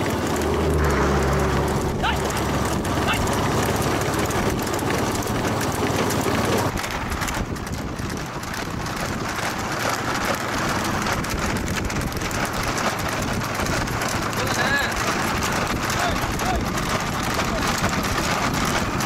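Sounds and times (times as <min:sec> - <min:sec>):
vehicle road noise: 0:00.0 - 0:19.0
wind buffeting microphone: 0:00.0 - 0:19.0.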